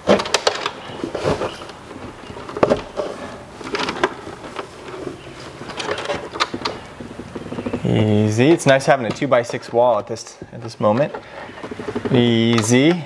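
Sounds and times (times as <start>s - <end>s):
knocks and clunks: 0.0s - 13.0s
cable rubbing and scraping: 0.4s - 13.0s.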